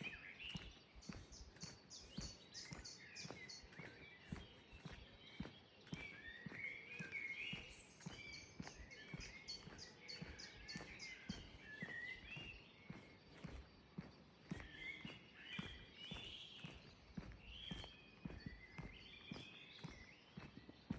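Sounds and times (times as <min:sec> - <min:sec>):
birds singing and chirping: 0:00.0 - 0:20.9
soft footsteps: 0:00.0 - 0:20.9.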